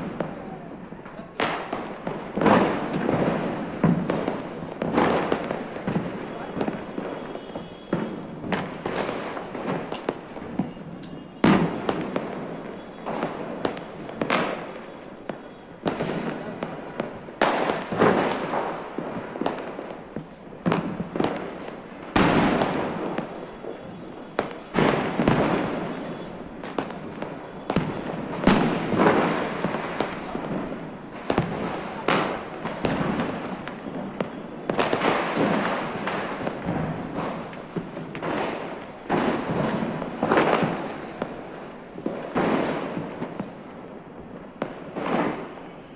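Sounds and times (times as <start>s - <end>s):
firecrackers banging: 0.0s - 45.9s.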